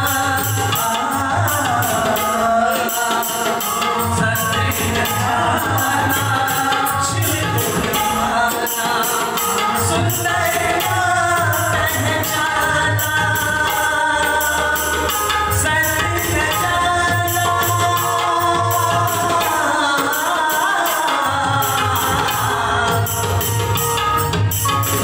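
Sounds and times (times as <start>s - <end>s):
man singing: 0.0s - 23.9s
drum beating steady rhythm: 0.0s - 25.0s
harmonium: 0.0s - 25.0s
jingling percussion: 0.0s - 25.0s.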